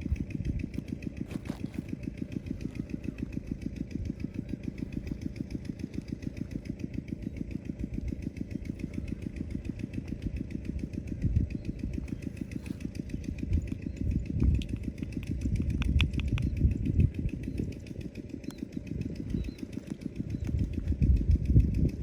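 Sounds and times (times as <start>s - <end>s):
small motor running: 0.0s - 22.0s.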